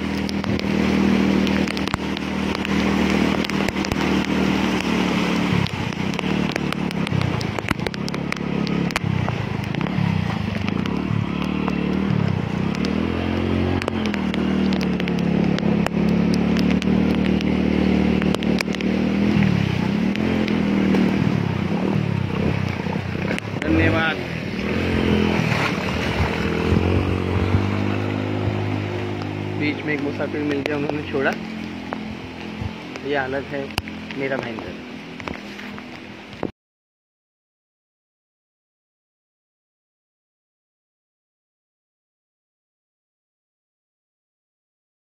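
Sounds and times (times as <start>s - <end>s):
water splashing: 0.0s - 36.5s.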